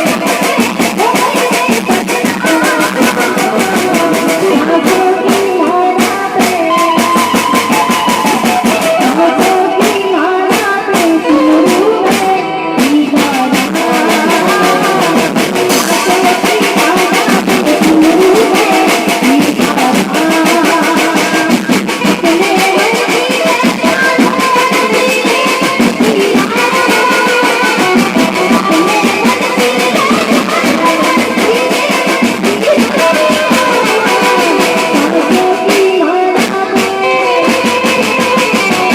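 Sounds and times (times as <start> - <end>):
loud music with drum beat: 0.0 - 38.9.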